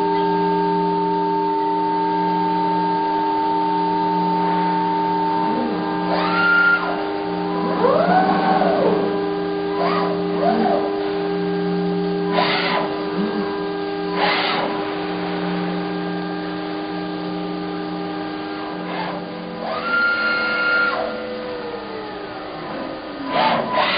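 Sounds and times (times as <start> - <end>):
machine hum: 0.0 - 23.9
motors whining: 0.0 - 23.9.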